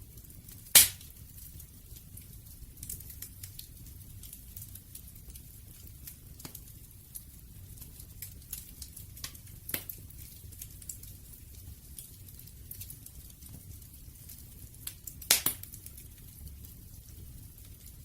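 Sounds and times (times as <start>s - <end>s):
fire pops and snaps: 0.0s - 18.0s
flames rumbling: 0.0s - 18.0s.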